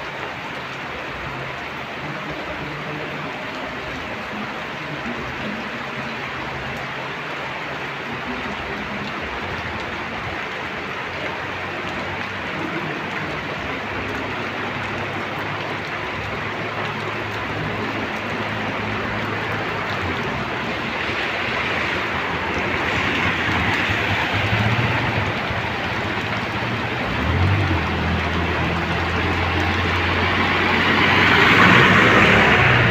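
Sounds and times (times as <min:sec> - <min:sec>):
steady rain falling: 0:00.0 - 0:32.9
vehicle engine hum: 0:00.1 - 0:32.9.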